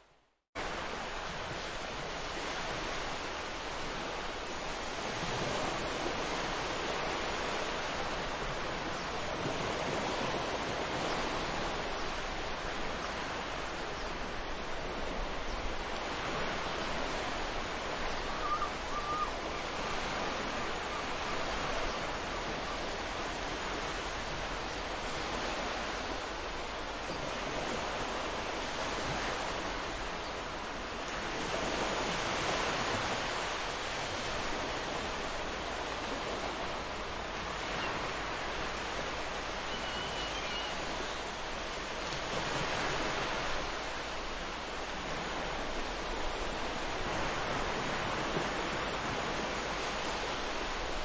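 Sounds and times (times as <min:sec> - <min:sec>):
waves breaking on a beach: 0:00.0 - 0:51.0.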